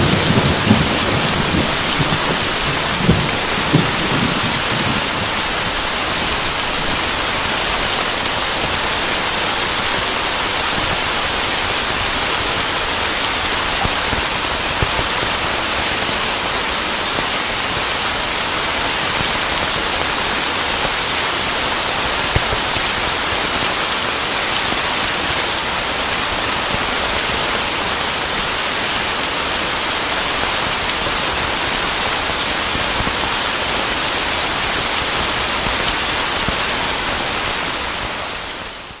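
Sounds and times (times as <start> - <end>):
dense rainfall: 0.0 - 39.0.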